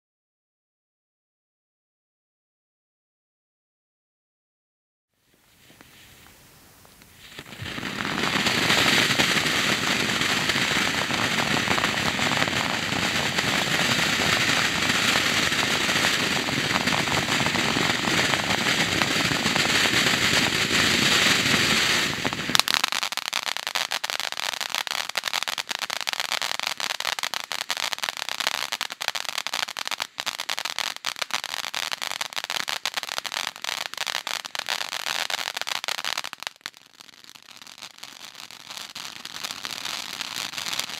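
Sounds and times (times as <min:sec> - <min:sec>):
firework fountain hissing: 0:05.5 - 0:40.9
firework rapid crackling: 0:05.6 - 0:40.9.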